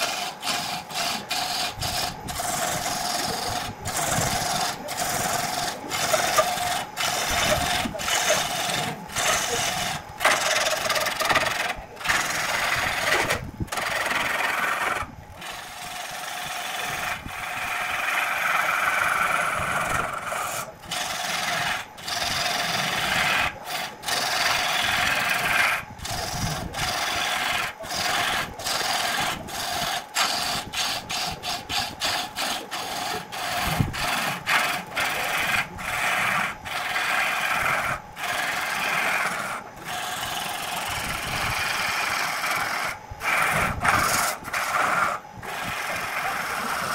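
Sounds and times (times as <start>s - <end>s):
gouge shaving wood on lathe: 0.0s - 46.9s
lathe hum: 0.0s - 46.9s.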